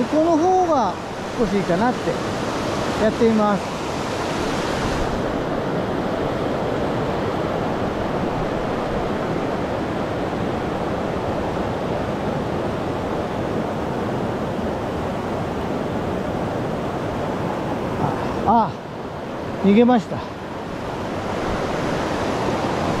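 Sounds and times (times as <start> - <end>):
river rushing over stones: 0.0 - 23.0.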